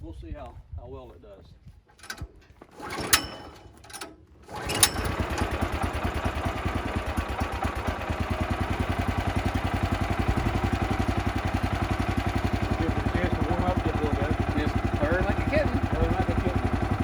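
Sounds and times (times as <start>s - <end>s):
gasoline engine starting and running: 1.9s - 17.0s.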